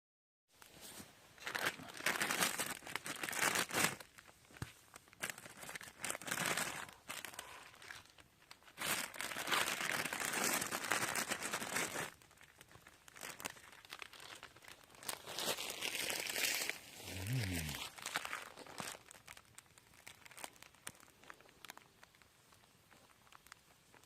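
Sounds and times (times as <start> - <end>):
crinkling rustling noise: 0.5 - 24.0.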